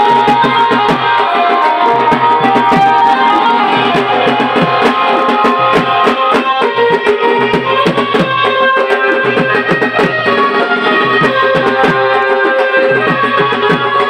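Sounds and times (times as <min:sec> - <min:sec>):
barrel drum played by hand: 0:00.0 - 0:14.0
music with held melodic notes: 0:00.0 - 0:14.0.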